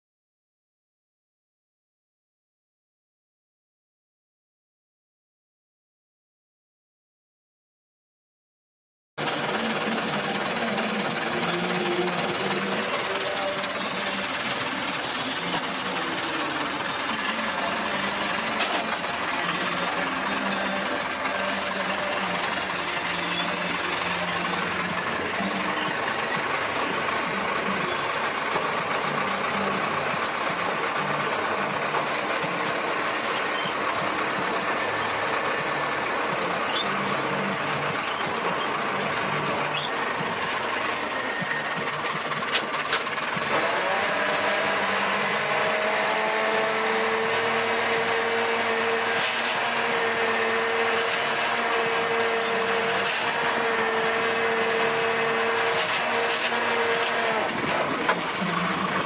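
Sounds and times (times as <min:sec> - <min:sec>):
rotary tiller whine: 0:09.2 - 0:59.0
tractor engine running: 0:09.2 - 0:59.0.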